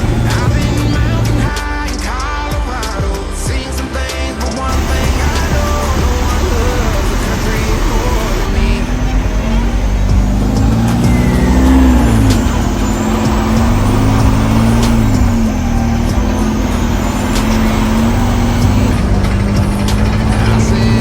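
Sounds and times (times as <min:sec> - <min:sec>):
diesel truck engine pulling: 0:00.0 - 0:21.0.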